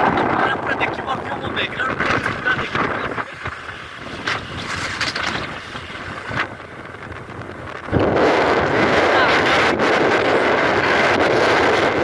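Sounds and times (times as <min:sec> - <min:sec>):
road noise: 0:00.0 - 0:12.0
scooter running: 0:00.0 - 0:12.0
wind rushing over microphone: 0:00.0 - 0:12.0.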